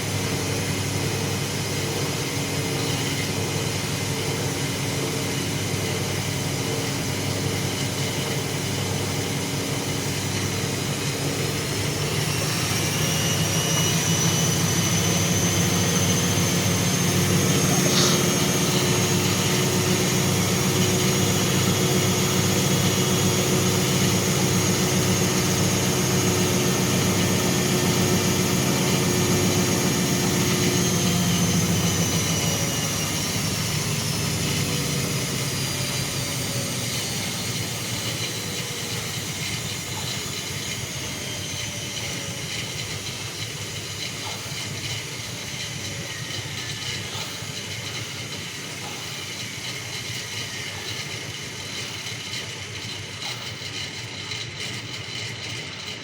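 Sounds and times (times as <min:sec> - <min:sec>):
washing machine spinning with whine: 0:00.0 - 0:56.0.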